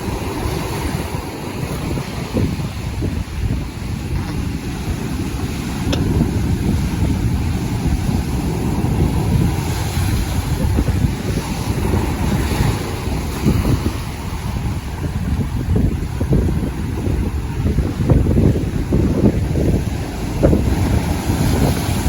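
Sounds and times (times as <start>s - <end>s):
sea waves washing: 0.0s - 22.0s
wind rumbling on microphone: 0.0s - 22.0s.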